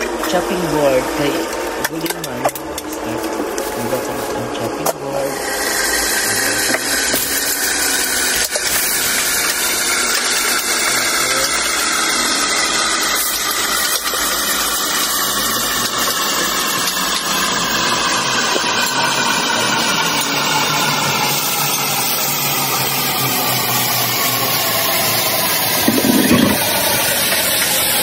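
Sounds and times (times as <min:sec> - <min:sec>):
food sizzling in a pan: 0:05.3 - 0:28.0.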